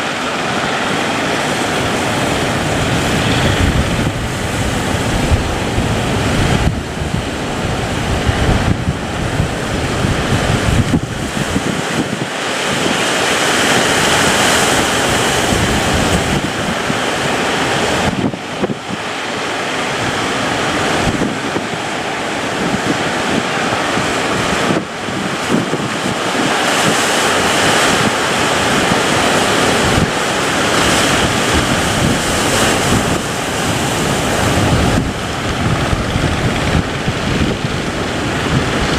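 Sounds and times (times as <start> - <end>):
sea waves rushing: 0.0 - 38.9
wind buffeting microphone: 0.0 - 38.9.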